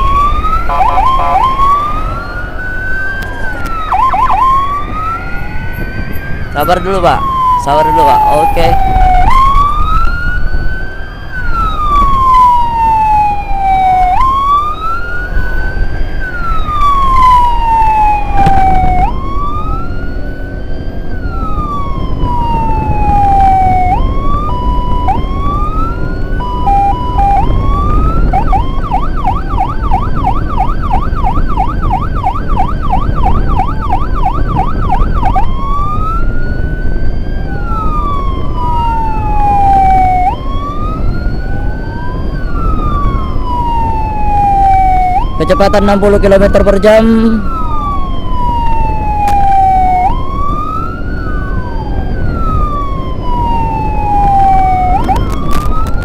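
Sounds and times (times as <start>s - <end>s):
emergency siren wailing: 0.0s - 56.0s
road and engine rumble: 0.0s - 56.0s.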